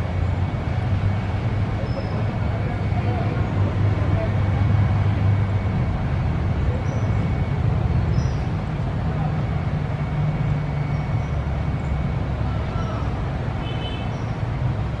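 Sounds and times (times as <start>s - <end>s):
low outdoor background rumble: 0.0s - 15.0s.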